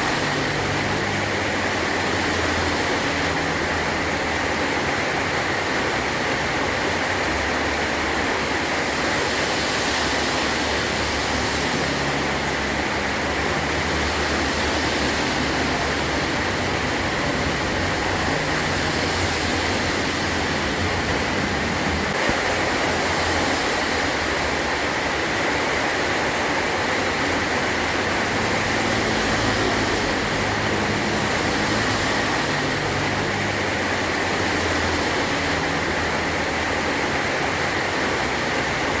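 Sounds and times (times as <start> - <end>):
heavy rain on metal roof: 0.0 - 39.0.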